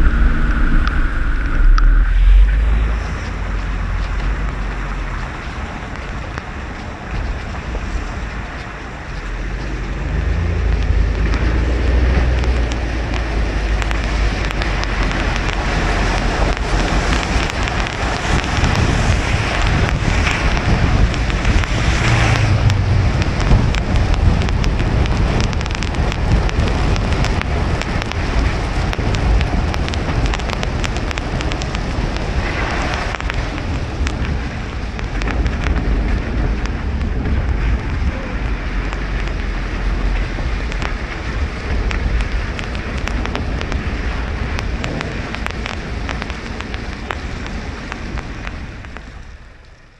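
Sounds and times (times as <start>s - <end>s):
low rumble: 0.0s - 49.9s
rain hiss: 0.0s - 49.9s
tyre and road noise: 0.0s - 49.9s.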